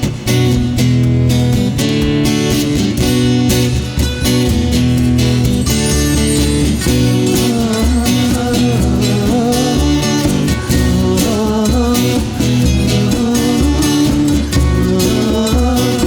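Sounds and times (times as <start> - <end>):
rhythmic bass line: 0.0 - 16.0
strummed acoustic guitars: 0.0 - 16.0.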